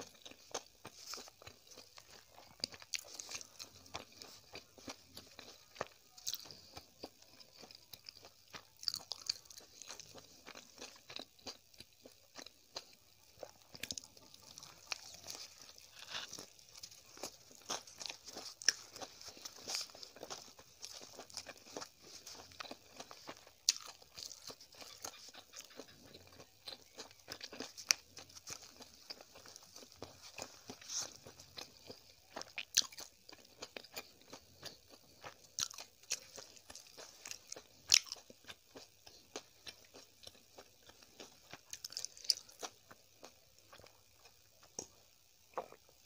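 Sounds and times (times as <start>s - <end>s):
close-miked chewing and crunching: 0.0s - 46.0s.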